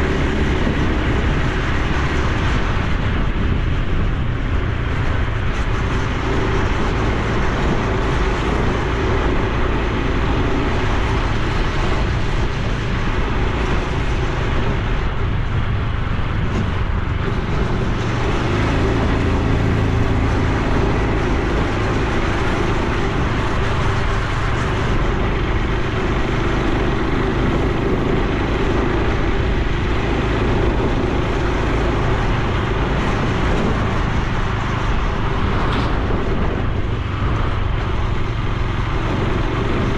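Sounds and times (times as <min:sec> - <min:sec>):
motorcycle engine running: 0:00.0 - 0:39.9
road noise: 0:00.0 - 0:39.9
rushing wind: 0:00.0 - 0:39.9.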